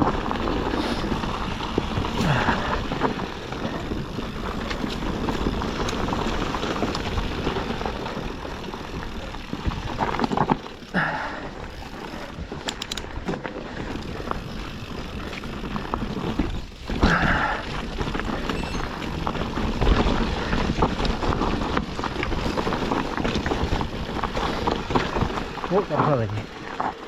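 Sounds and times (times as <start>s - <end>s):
bike knocking: 0.0s - 27.0s
bike tyres on rough trail: 0.0s - 27.0s.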